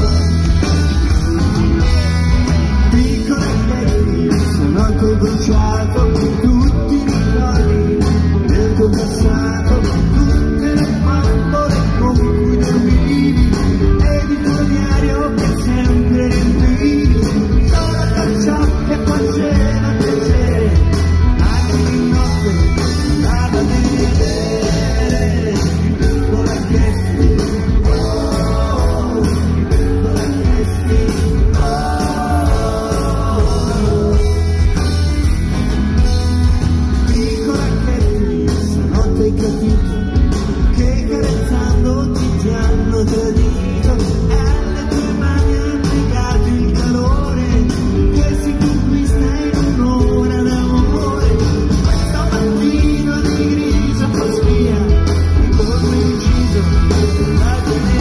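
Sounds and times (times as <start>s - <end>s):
lead singer singing: 0.0s - 36.1s, 37.0s - 58.0s
live rock band: 0.0s - 58.0s.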